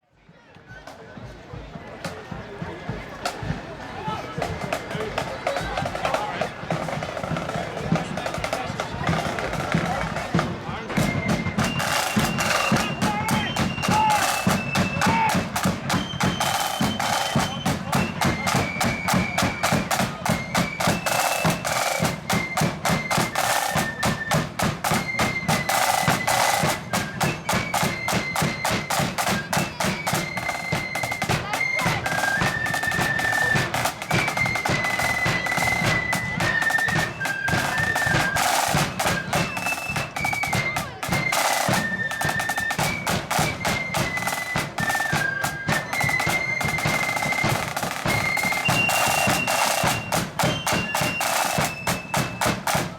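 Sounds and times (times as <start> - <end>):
rapid snare drumming: 0.7 - 52.9
high wind melody: 1.1 - 52.9.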